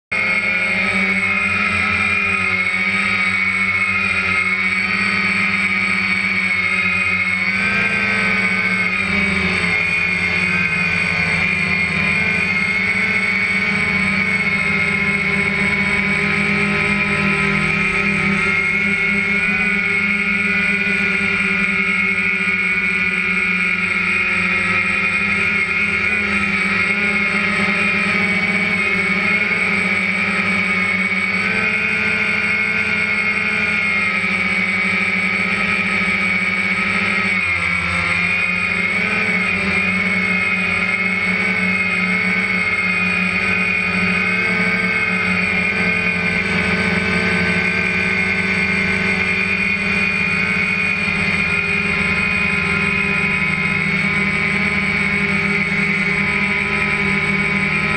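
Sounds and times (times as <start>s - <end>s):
drone motors whining: 0.0s - 57.9s.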